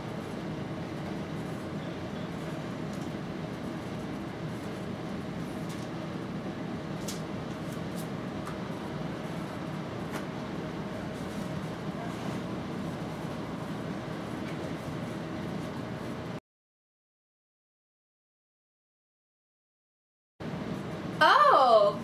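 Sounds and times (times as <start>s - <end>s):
air conditioner humming: 0.0s - 16.4s, 20.4s - 22.0s.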